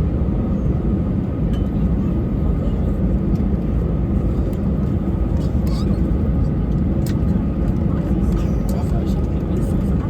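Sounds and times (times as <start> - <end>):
aircraft engines rumbling in cabin: 0.0 - 10.0.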